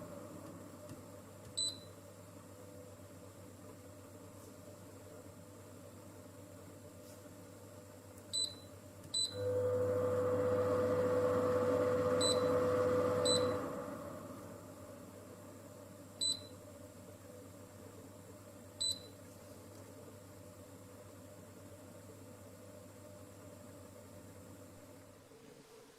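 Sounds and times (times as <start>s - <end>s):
fan hum: 0.0s - 25.9s.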